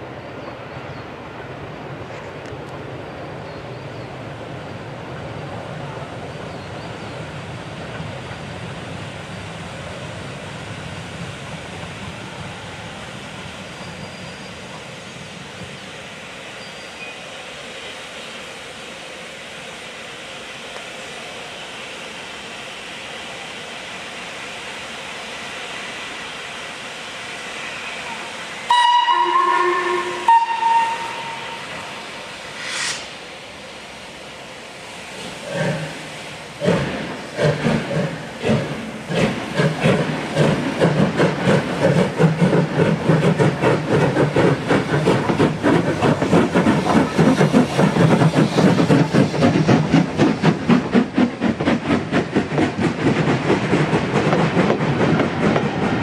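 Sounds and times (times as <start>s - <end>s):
steam hissing: 3.2s - 56.0s.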